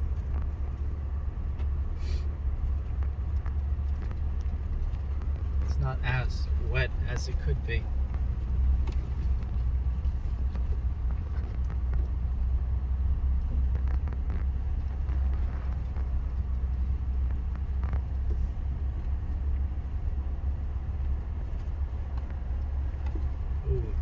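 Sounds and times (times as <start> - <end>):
faint knocks from bumpy road: 0.0 - 24.0
truck rumbling: 0.0 - 24.0.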